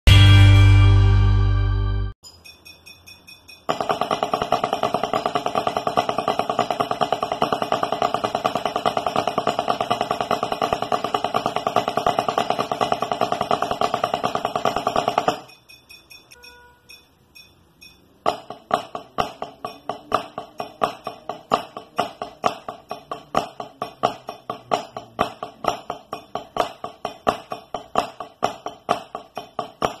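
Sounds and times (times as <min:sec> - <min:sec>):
drumsticks tapping on practice pad: 0:02.5 - 0:30.0.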